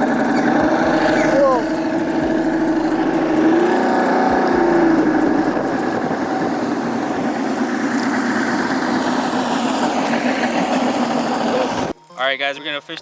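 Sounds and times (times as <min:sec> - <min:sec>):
outboard motor running: 0:00.0 - 0:11.9.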